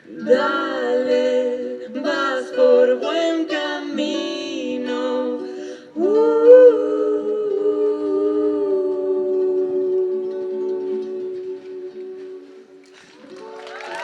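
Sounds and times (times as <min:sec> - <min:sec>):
wordless harmony singing: 0:00.0 - 0:14.0.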